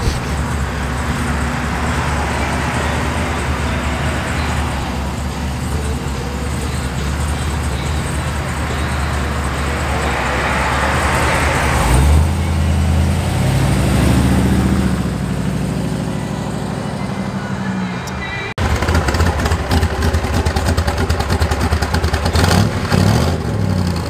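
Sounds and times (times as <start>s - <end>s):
car engine rumbling and revving: 0.0s - 24.0s.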